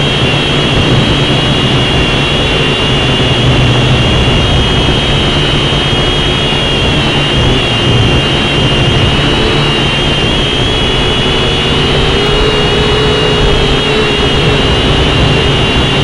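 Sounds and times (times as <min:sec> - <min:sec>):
toy drone motors whining: 0:00.0 - 0:16.0
wind rumbling on microphone: 0:00.0 - 0:16.0.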